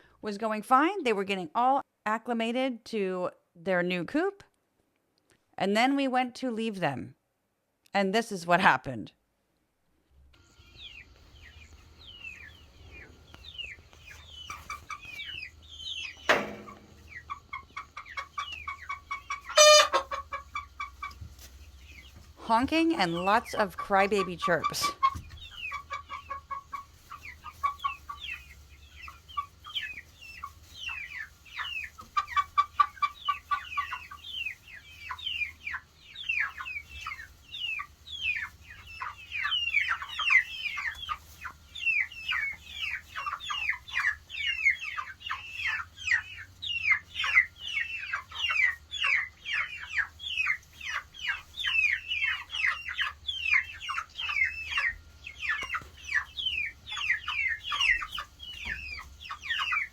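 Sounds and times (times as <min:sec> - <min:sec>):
chicks peeping: 0:10.4 - 0:59.9.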